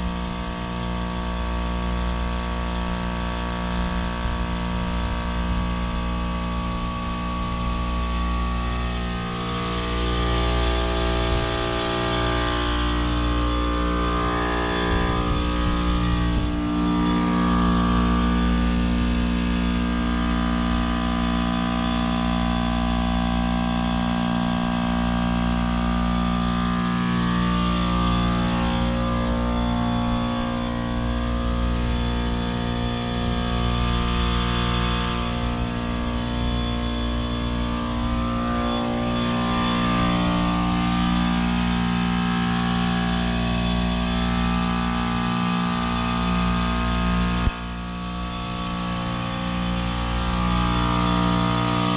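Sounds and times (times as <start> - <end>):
heat pump mechanical hum: 0.0 - 51.9
noisy rush: 0.0 - 51.9.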